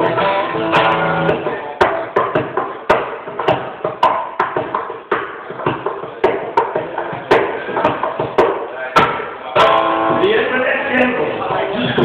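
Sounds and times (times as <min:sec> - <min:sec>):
percussive guitar strums: 0:00.0 - 0:10.5.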